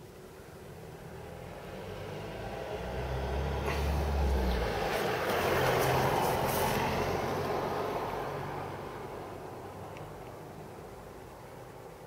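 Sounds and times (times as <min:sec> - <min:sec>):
vehicle passing rumble: 0:00.8 - 0:11.0.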